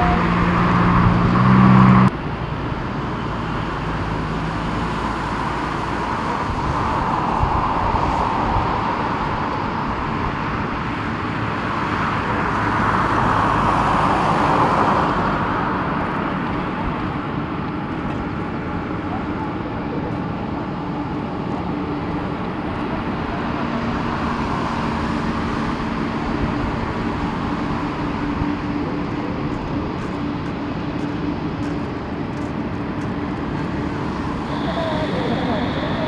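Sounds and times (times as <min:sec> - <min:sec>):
jet engines taxiing: 0:00.0 - 0:36.0.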